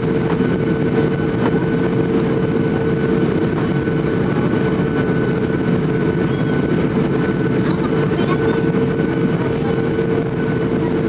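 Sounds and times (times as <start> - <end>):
airplane cabin engine drone: 0.0 - 11.0
mid-pitched hum: 0.0 - 11.0.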